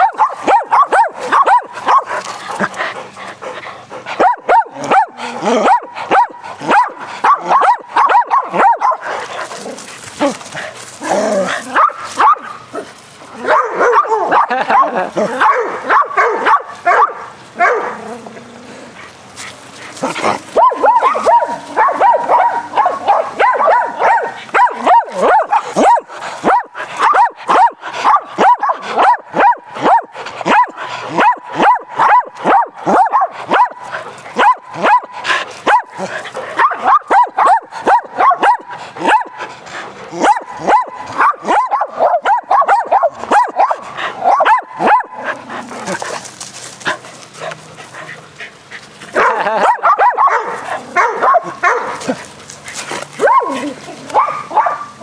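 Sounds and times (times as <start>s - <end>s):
dogs barking rapidly: 0.0s - 18.1s, 19.2s - 55.0s.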